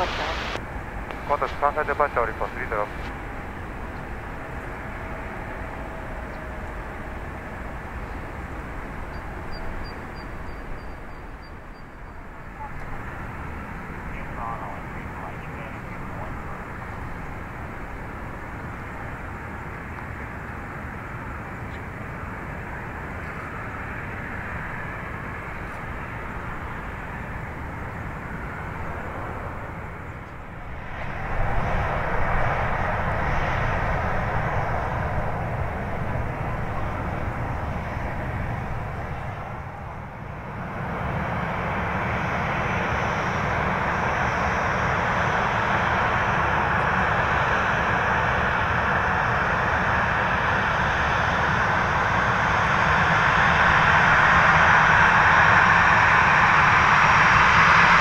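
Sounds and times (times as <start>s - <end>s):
jet engines spooling up: 0.0s - 10.8s, 12.3s - 58.0s.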